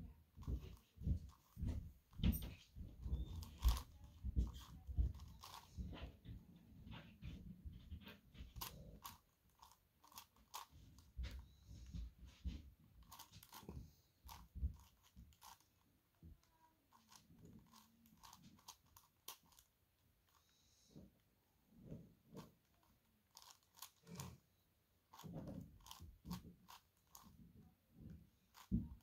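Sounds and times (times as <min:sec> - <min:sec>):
plastic puzzle clicking and scraping: 0:00.3 - 0:29.0.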